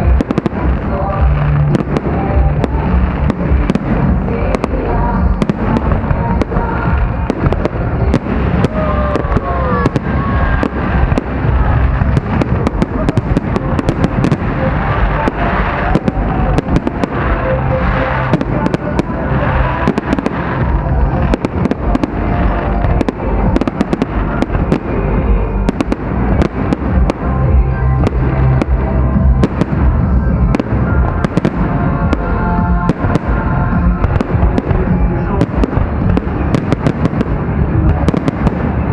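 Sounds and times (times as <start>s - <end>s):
fireworks bangs and crackles: 0.0s - 38.9s
heavy low rumble: 0.0s - 38.9s
music playing: 0.0s - 38.9s.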